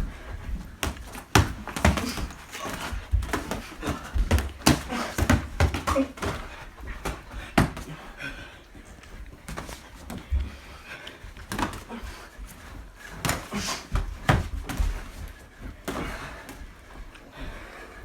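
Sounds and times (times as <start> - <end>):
boxing gloves hitting bodies: 0.0 - 16.8.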